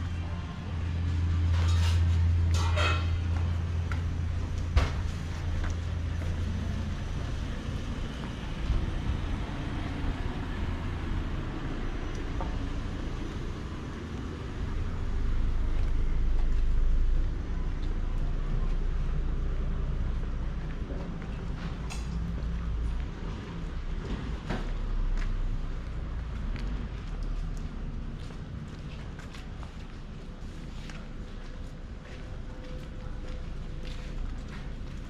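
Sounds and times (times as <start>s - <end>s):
vehicle engine hum: 0.0s - 35.0s.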